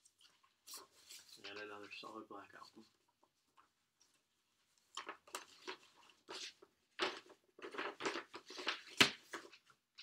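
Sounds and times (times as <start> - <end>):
rustling and crinkling packaging: 0.0 - 10.0.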